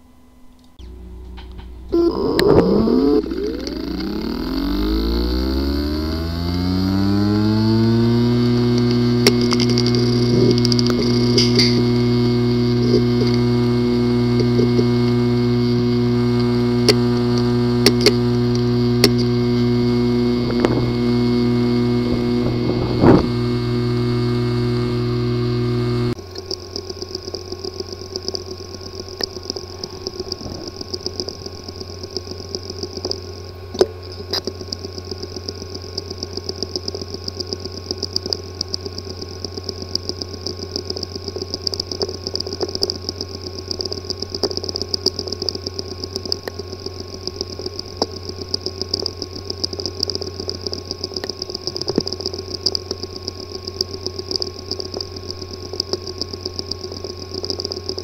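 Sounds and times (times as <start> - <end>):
hard disk hum and whine: 0.0 - 58.0
hard disk rapid clicking: 0.8 - 58.0.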